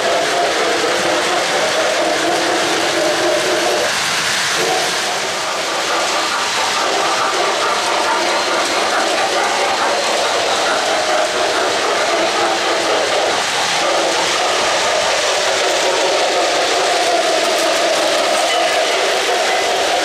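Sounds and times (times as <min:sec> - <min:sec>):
model train wheels rumbling on rails: 0:00.0 - 0:20.0.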